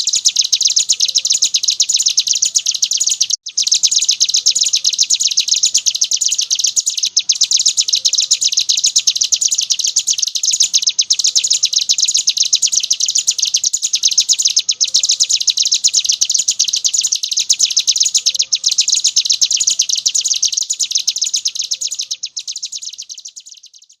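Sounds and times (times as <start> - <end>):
bird chattering trill: 0.0 - 24.0.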